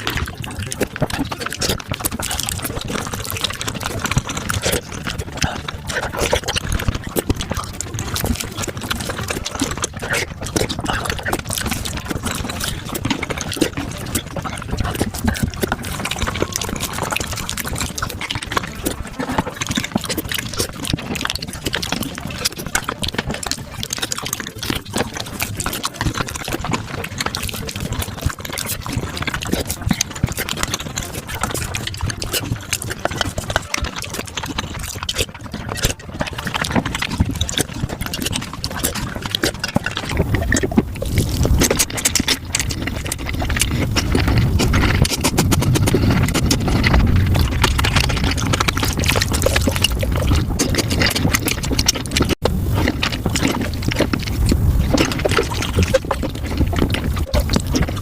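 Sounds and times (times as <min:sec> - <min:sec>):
sped-up slurping and chewing: 0:00.0 - 0:58.0.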